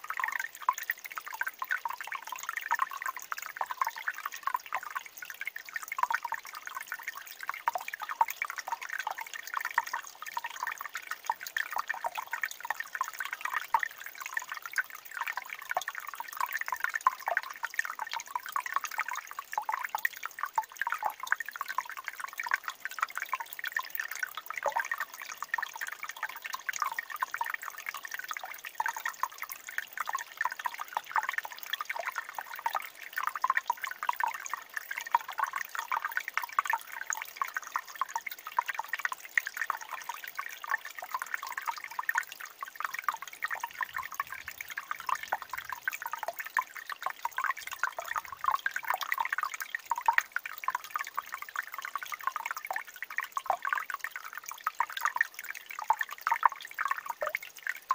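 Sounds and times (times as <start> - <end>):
water trickling and dripping: 0.0 - 57.9.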